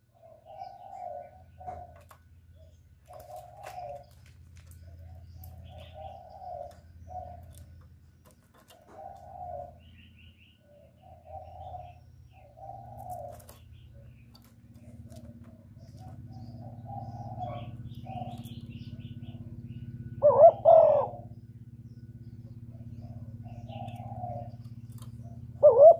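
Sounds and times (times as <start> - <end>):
dove cooing: 0.0 - 21.5, 22.1 - 25.9
low hum: 0.0 - 25.9
small birds chirping: 0.0 - 25.9.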